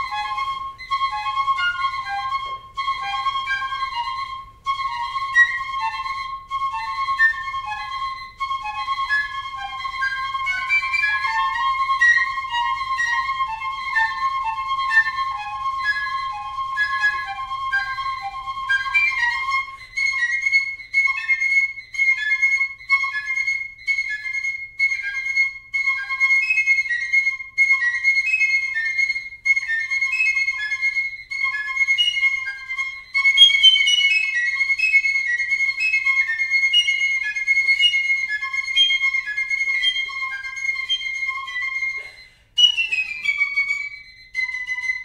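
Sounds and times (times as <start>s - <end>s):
solo piccolo playing: 0.0s - 45.0s.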